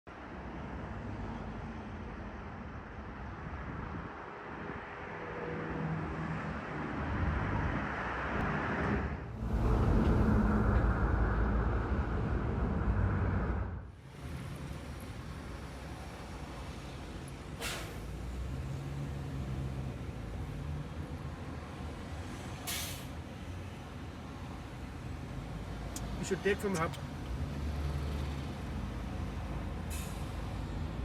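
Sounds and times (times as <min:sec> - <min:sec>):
traffic rumble: 0:00.3 - 0:31.0.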